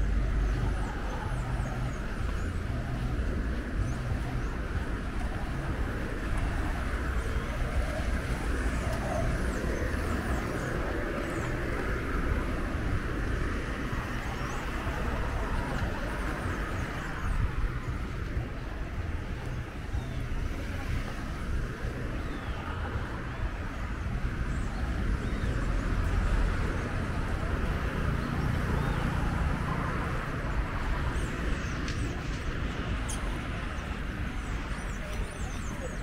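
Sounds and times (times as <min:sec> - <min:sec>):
distant traffic: 0:00.0 - 0:36.0
faint voices of passers-by: 0:00.0 - 0:36.0
wind rumble: 0:00.0 - 0:36.0.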